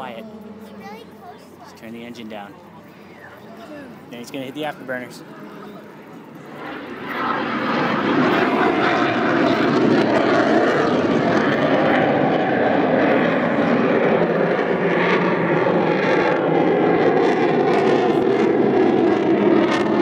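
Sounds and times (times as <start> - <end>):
jet aircraft on afterburner: 0.0 - 20.0.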